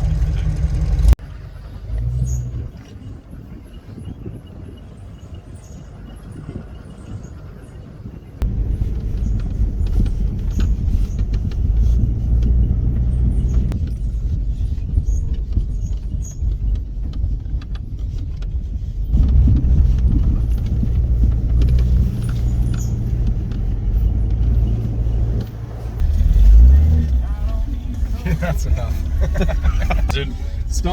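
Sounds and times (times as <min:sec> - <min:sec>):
off-road vehicle engine running: 0:00.0 - 0:30.9.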